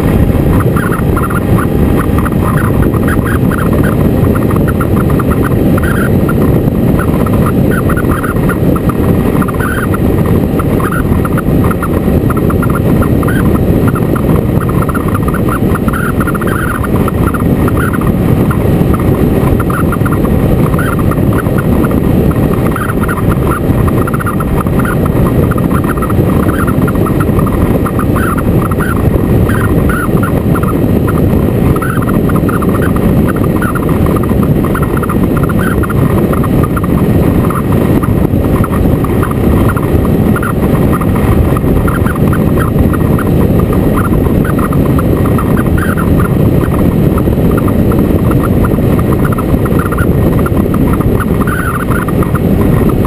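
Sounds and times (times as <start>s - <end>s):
motorcycle engine running: 0.0s - 53.0s
wind rushing on microphone: 0.0s - 53.0s.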